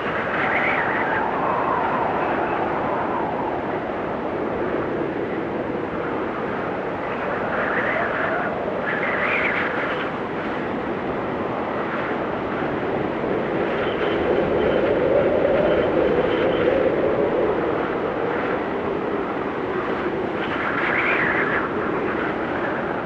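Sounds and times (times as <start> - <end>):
blizzard wind whistling: 0.0 - 23.0.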